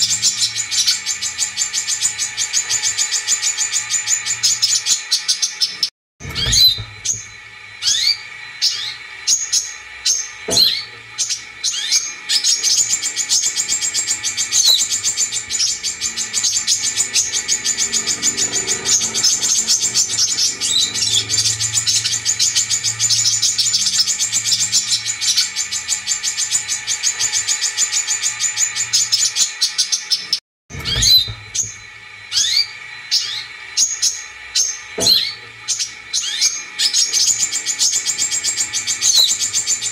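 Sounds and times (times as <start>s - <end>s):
bird chirps and trill: 0.0s - 39.9s.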